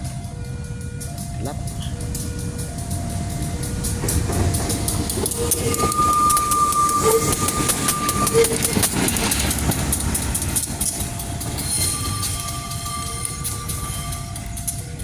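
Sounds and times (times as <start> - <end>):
locomotive engine rumble: 0.0 - 15.0
steady high tone: 0.0 - 15.0
wheels clicking over rail joints: 0.0 - 15.0.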